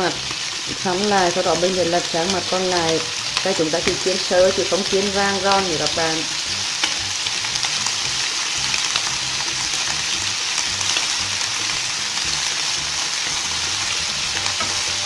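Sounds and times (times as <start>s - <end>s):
eel sizzling in oil: 0.0s - 15.0s.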